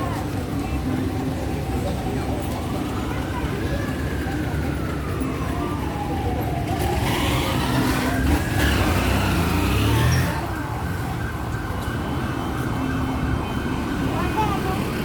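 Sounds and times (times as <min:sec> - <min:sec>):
street traffic rumble: 0:00.0 - 0:15.0
emergency siren wailing: 0:00.2 - 0:15.0.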